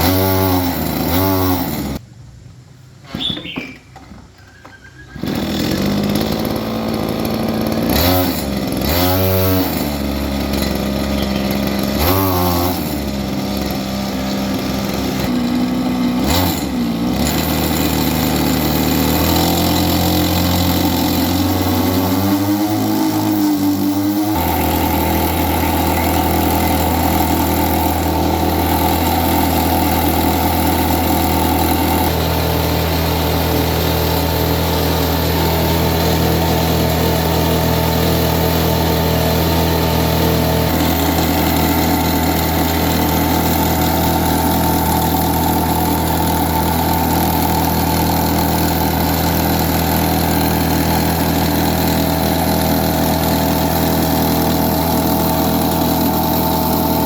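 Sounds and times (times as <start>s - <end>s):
small engine revving: 0.0s - 2.0s, 3.1s - 57.0s.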